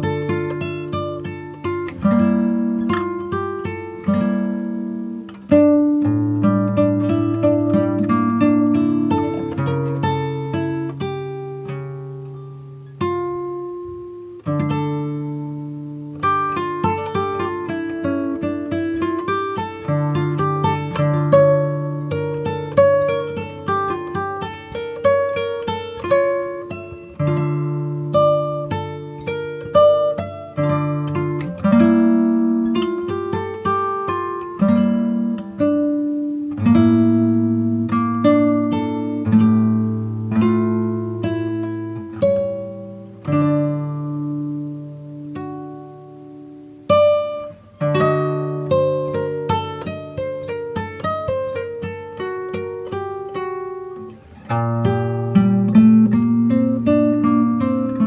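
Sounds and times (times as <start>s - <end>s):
plucked string music: 0.0s - 58.0s.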